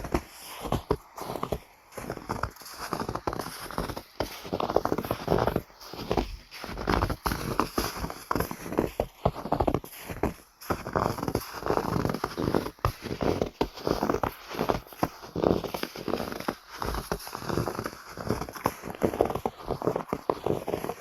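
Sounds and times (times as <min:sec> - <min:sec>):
footsteps crunching in snow: 0:00.0 - 0:21.0.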